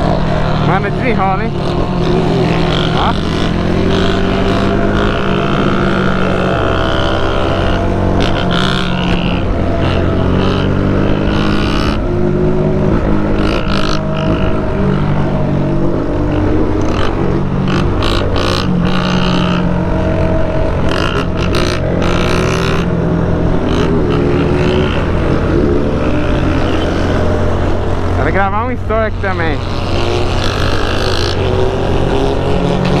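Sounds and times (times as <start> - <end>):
motorcycle engines idling: 0.0 - 33.0
motorcycles revving: 0.0 - 33.0.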